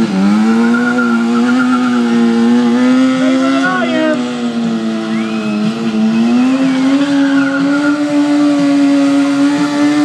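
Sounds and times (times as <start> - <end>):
motorcycle engine at high revs: 0.0 - 10.0
tire squeal: 0.0 - 10.0.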